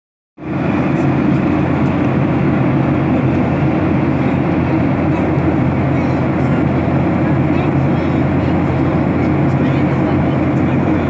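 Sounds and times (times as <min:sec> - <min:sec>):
airliner cabin engine roar: 0:00.4 - 0:11.0.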